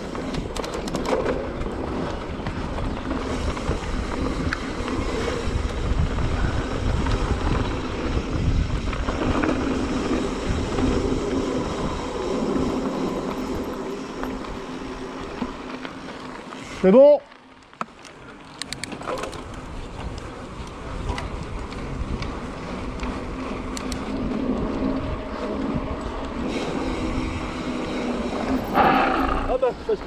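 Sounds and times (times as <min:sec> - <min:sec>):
wind rushing over microphone: 0:00.0 - 0:15.8, 0:18.8 - 0:30.0
tyres rumbling on trail: 0:00.0 - 0:30.0.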